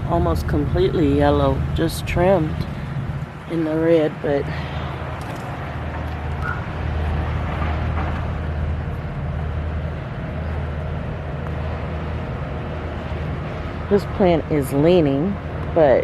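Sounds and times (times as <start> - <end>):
low engine hum: 0.0 - 16.0
outdoor noise haze: 0.0 - 16.0.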